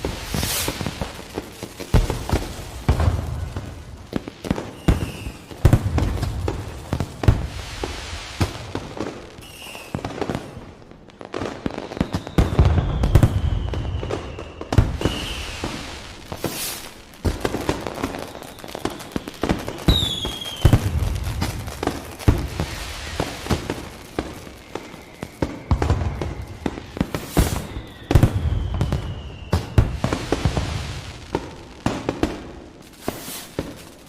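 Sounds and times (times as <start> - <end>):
falling firework whistle: 0.0 - 10.6, 11.3 - 34.0
fireworks crackling bangs and booms: 0.0 - 34.0.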